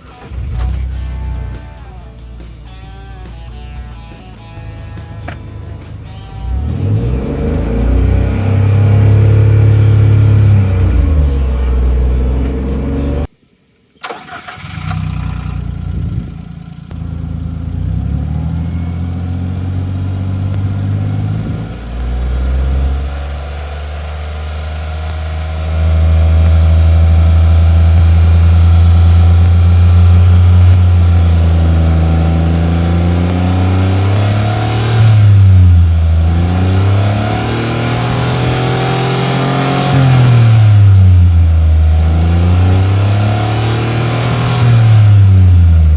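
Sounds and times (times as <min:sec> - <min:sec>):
engine revving: 0:00.0 - 0:13.3, 0:14.1 - 0:45.9
van engine idling: 0:00.0 - 0:13.3, 0:14.1 - 0:45.9.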